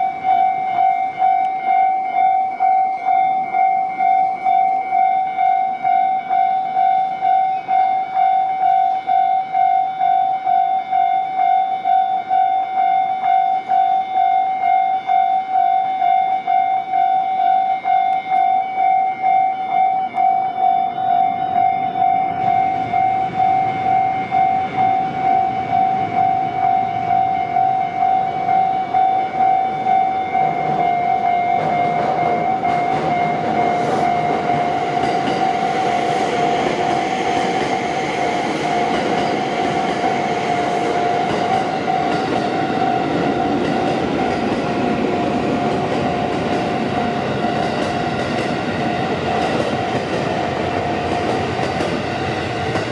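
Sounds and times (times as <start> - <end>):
level crossing warning bell: 0.0 - 52.9
passing train running noise: 0.0 - 52.9.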